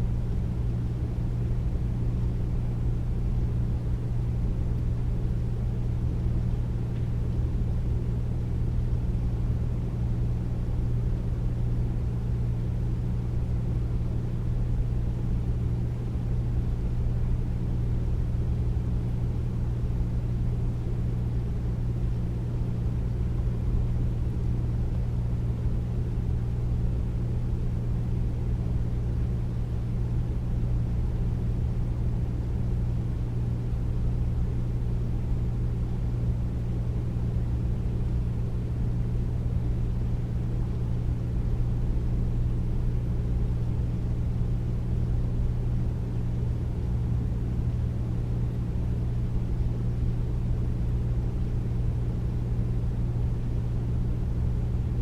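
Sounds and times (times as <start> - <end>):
air conditioner running: 0.0 - 55.0.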